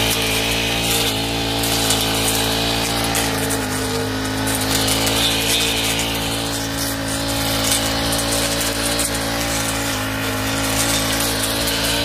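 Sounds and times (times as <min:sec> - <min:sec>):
blade cutting weeds: 0:00.0 - 0:12.0
brush cutter engine drone: 0:00.0 - 0:12.0.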